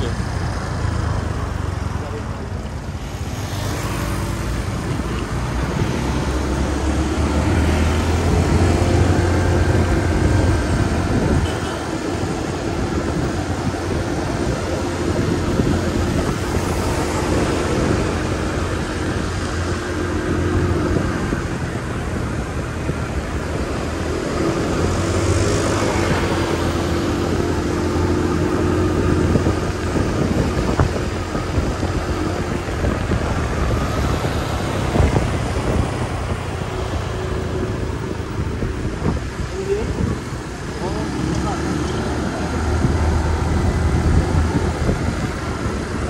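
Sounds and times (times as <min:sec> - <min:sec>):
tyre and wind noise: 0:00.0 - 0:46.0
vehicles passing: 0:00.0 - 0:46.0.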